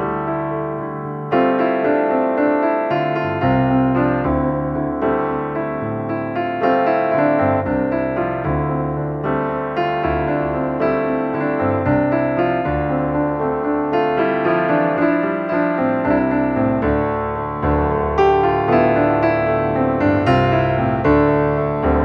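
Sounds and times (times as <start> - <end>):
background piano music: 0.0 - 22.0.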